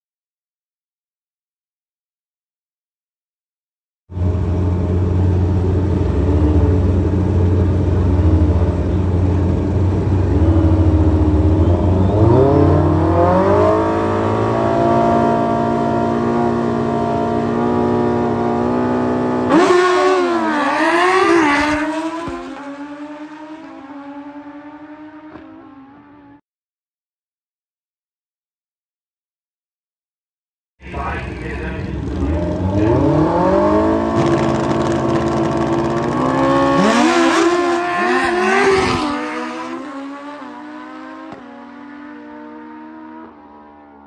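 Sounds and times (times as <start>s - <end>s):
motorcycle engine revving: 4.1s - 26.4s, 30.9s - 44.0s.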